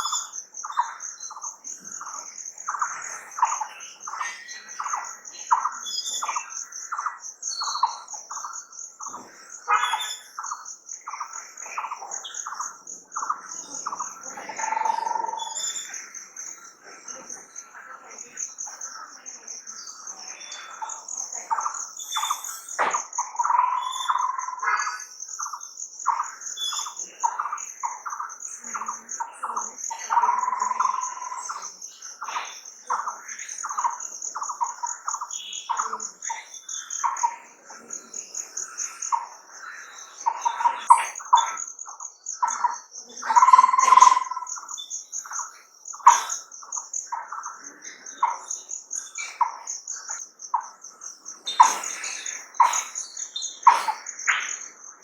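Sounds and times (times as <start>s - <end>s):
birds chirping: 0.0s - 55.0s
high insect trill: 0.0s - 55.0s.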